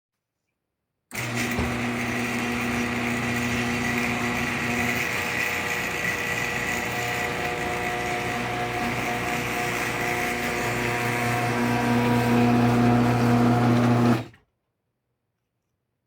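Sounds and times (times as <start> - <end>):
garage door opener motor humming: 1.1 - 14.4.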